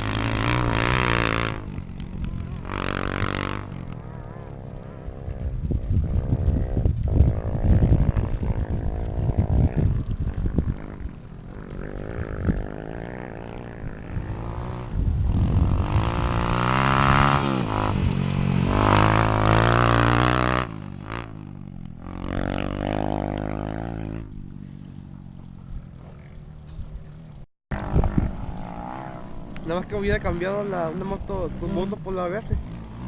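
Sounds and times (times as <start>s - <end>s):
motorcycle engines revving and passing: 0.0s - 33.0s.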